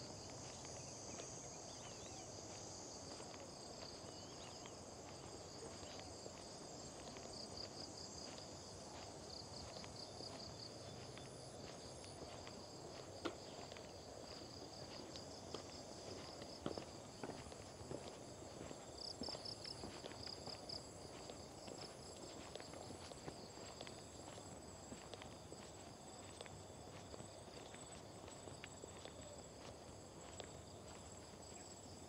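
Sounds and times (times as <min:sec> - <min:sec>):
faint footsteps on trail: 0:00.0 - 0:32.0
insects chirring: 0:00.0 - 0:32.0.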